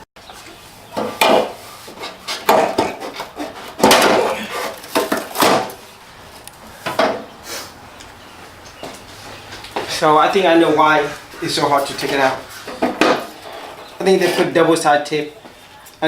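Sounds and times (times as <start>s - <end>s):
panel scraping and rattling: 1.0s - 14.6s.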